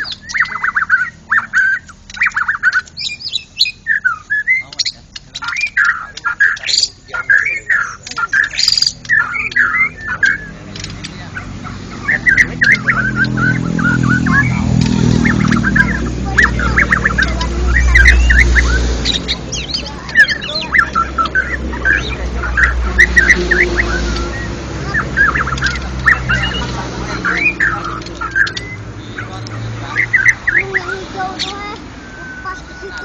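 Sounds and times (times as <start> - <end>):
birds singing whistled notes: 0.0 - 33.0.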